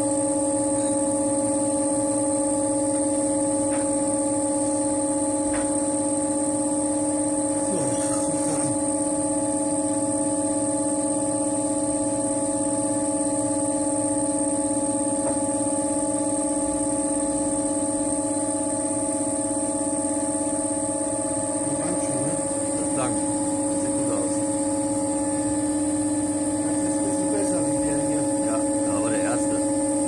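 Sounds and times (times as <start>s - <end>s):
potter's wheel motor hum: 0.0s - 30.0s.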